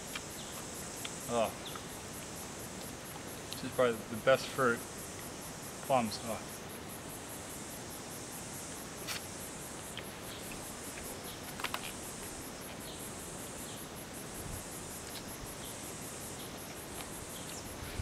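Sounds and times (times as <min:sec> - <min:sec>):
high hissing buzz: 0:00.0 - 0:18.0
insects pulsing calls: 0:00.0 - 0:18.0.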